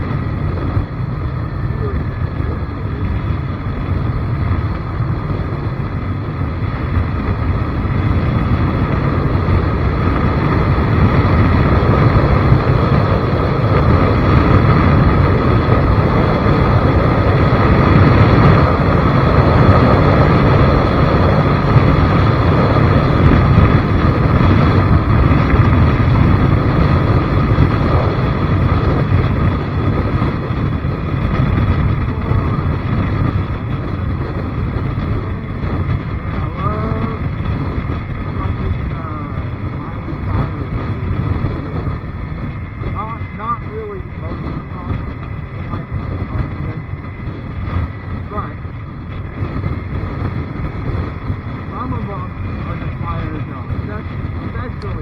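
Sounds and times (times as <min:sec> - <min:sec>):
vehicle riding noise: 0:00.0 - 0:55.0
wind buffeting microphone: 0:00.0 - 0:55.0.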